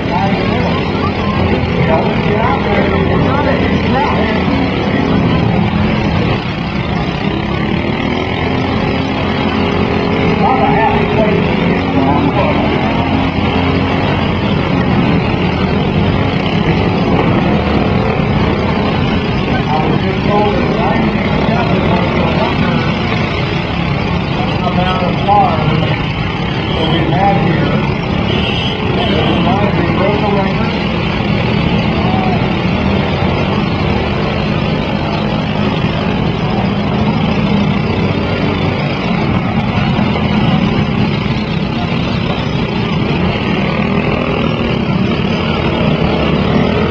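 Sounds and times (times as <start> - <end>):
riding lawn mower engines: 0.0 - 46.9.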